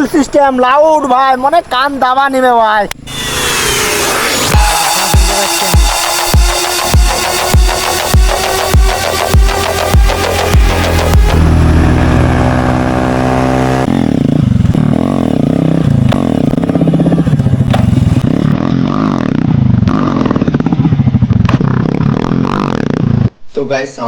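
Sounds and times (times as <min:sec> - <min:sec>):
motorcycle engine revving: 0:03.0 - 0:23.3.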